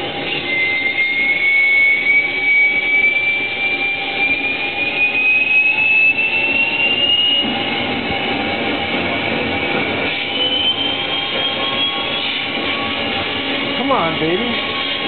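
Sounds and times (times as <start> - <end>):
jet turbine engine spooling up: 0.0 - 15.0.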